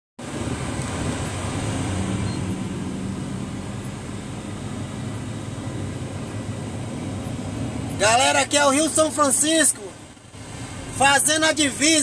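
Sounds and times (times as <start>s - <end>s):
road rumble: 0.2s - 12.0s
vehicle engine drone: 0.2s - 12.0s.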